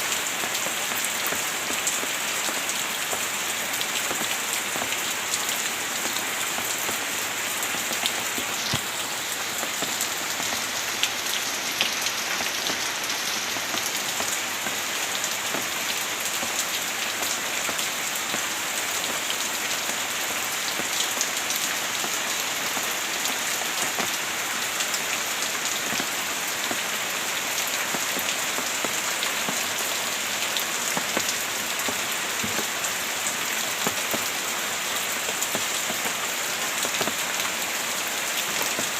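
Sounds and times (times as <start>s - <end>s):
heavy rain falling: 0.0s - 38.9s
raindrops pattering on surface: 0.0s - 38.9s.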